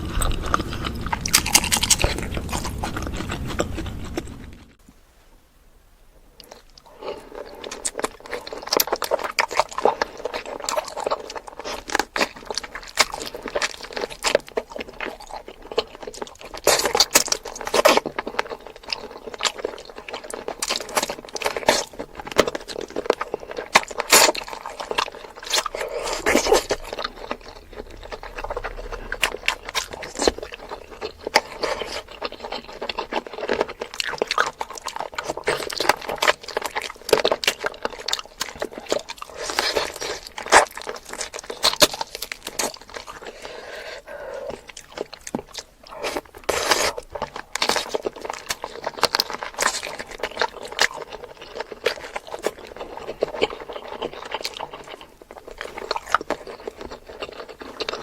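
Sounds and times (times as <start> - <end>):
wet chewing and mouth smacks: 0.0 - 4.8, 6.4 - 58.0.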